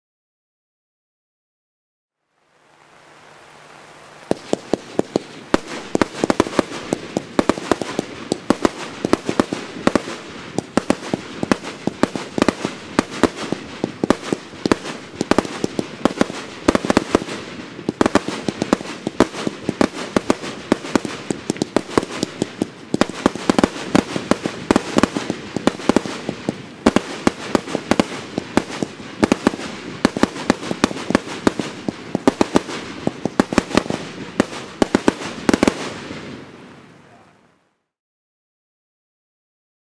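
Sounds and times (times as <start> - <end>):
fireworks sharp reports: 4.0 - 37.4.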